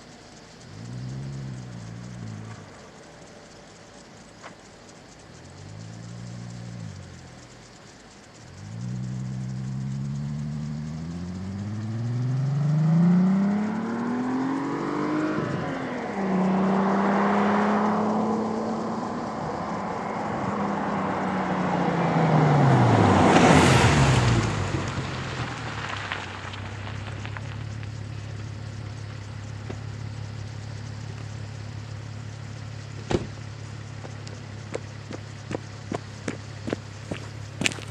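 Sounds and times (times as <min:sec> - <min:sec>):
car engine accelerating: 0:00.0 - 0:37.9.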